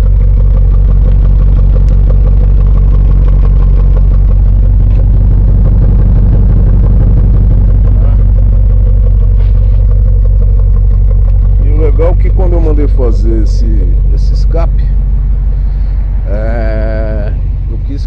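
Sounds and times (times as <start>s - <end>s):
engine idling low rumble: 0.0s - 18.0s.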